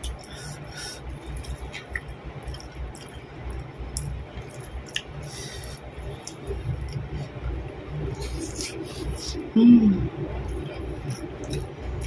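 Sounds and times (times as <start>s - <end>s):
person chewing food: 0.0s - 9.5s, 10.2s - 12.0s.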